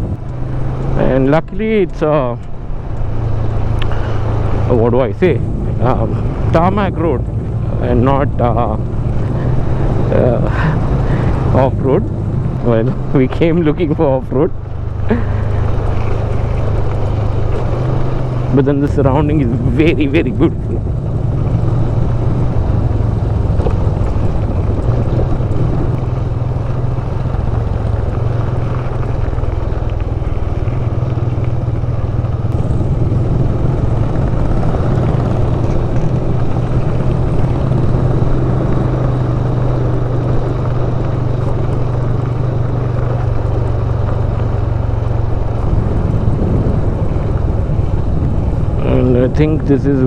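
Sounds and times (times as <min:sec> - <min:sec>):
motorcycle engine cruising: 0:00.0 - 0:50.0
road and wind noise: 0:00.0 - 0:50.0.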